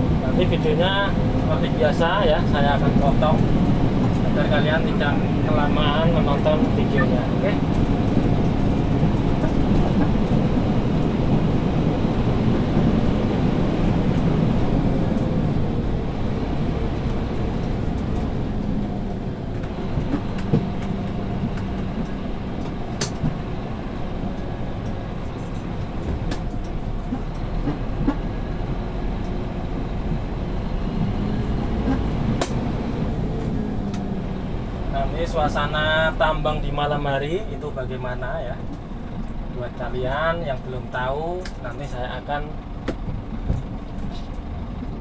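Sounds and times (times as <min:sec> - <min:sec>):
diesel truck engine rumble: 0:00.0 - 0:45.0
road and chassis noise: 0:00.0 - 0:45.0.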